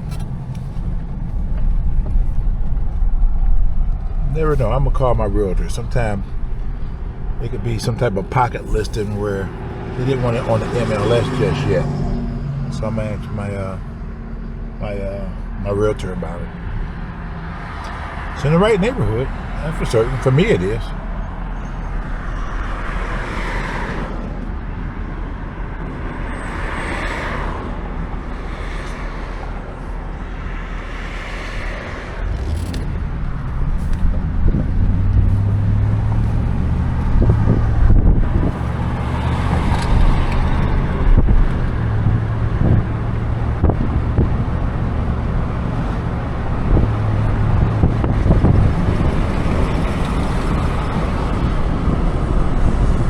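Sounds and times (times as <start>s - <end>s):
car engine and road noise: 0.0s - 53.0s
low engine drone: 0.0s - 53.0s.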